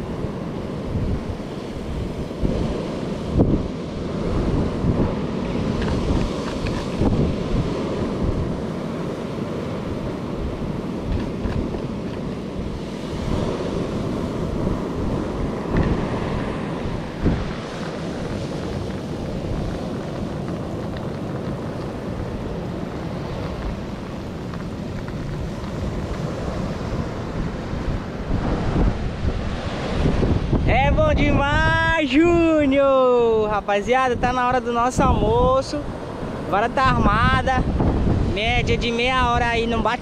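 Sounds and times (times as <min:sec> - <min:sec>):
surf breaking on beach: 0:00.0 - 0:40.0
wind buffeting microphone: 0:00.0 - 0:40.0.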